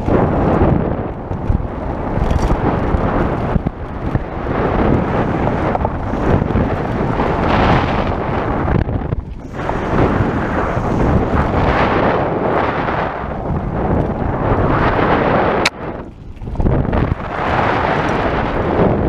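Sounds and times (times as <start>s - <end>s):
bike tyres rolling on dirt: 0.0s - 19.0s
wind buffeting microphone: 0.0s - 19.0s.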